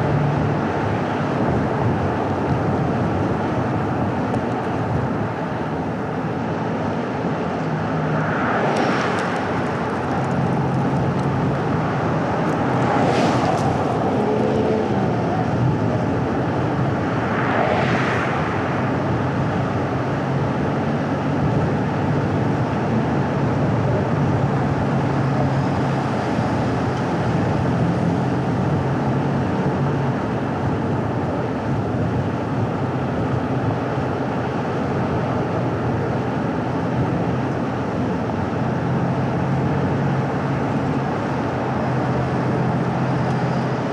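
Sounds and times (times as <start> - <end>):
low engine hum: 0.0 - 43.9
swells of rushing noise: 0.0 - 43.9
tyre and road noise: 0.0 - 43.9.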